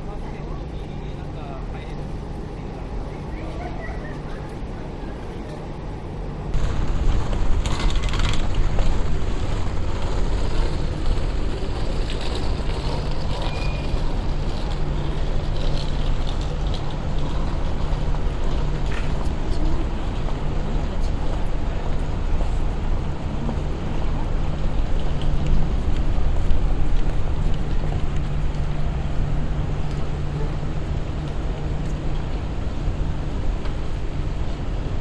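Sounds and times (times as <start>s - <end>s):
street traffic noise: 0.0s - 35.0s.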